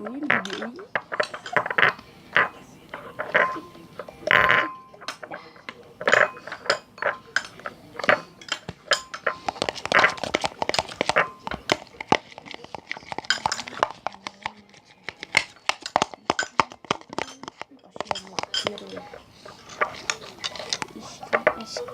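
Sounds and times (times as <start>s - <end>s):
stirrer scraping a container: 0.0s - 5.4s, 6.0s - 21.9s.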